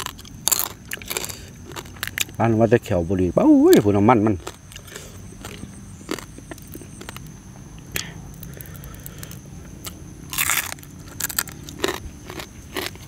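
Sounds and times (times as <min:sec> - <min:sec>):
person chewing crunchy food: 0:00.0 - 0:02.4, 0:03.6 - 0:13.0.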